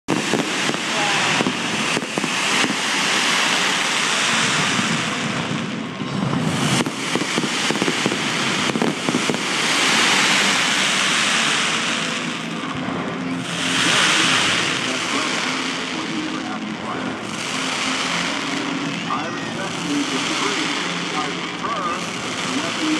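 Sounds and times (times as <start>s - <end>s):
fireworks crackles and pops: 0.0s - 22.9s
hissing spark fountains: 0.1s - 22.9s.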